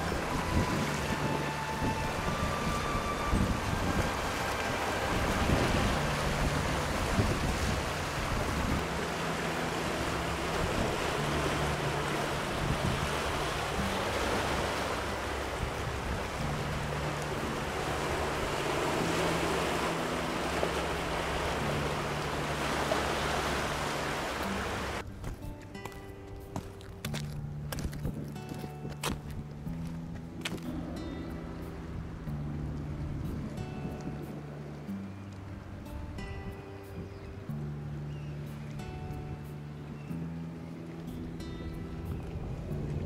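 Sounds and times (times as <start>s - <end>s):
wind buffeting microphone: 0.0s - 9.2s, 9.8s - 25.5s, 27.1s - 37.5s, 41.4s - 43.0s.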